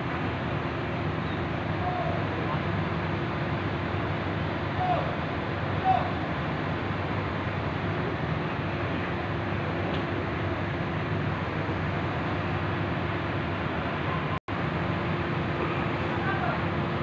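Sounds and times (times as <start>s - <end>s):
diesel crane engine humming: 0.0s - 17.0s.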